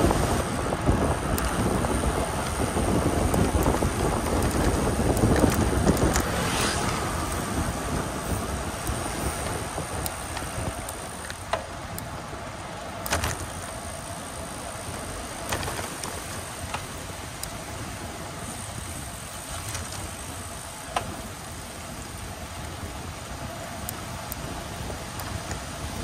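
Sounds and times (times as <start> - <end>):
bicycle rolling noise: 0.0 - 26.0
wind: 0.0 - 26.0.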